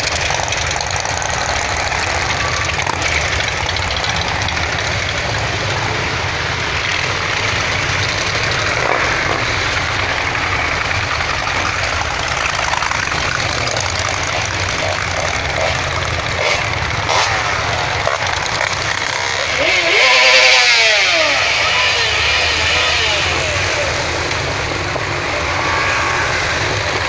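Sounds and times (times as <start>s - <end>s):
motorcycle engines riding slowly past: 0.0s - 27.0s.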